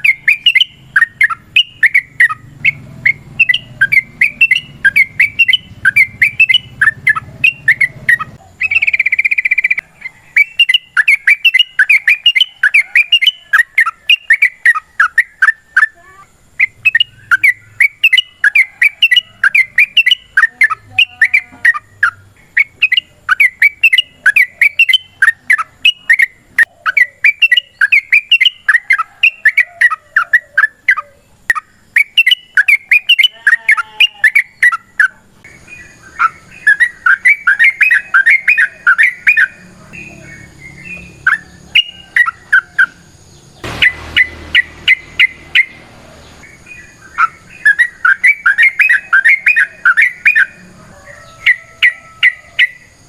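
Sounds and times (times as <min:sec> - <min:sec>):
bulbul singing chattering song: 0:00.0 - 0:53.0.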